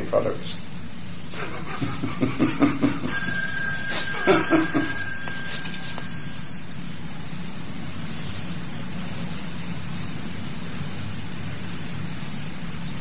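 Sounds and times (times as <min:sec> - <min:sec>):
tape hiss: 0:00.0 - 0:13.0
low hum: 0:00.6 - 0:13.0.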